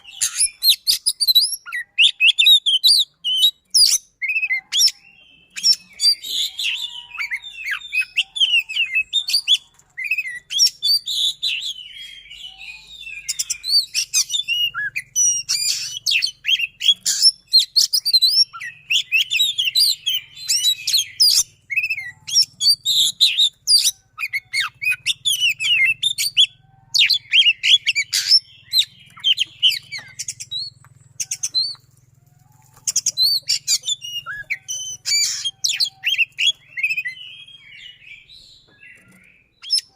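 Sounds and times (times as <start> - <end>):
bird singing fast trills: 0.0 - 39.9.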